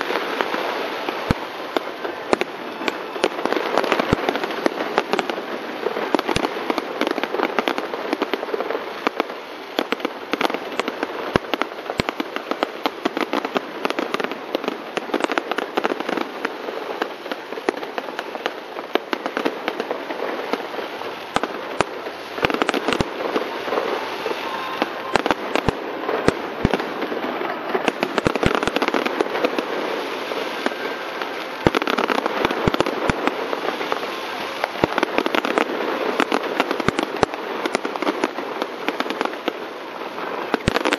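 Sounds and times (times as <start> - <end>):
fireworks crackling and banging: 0.0 - 40.9.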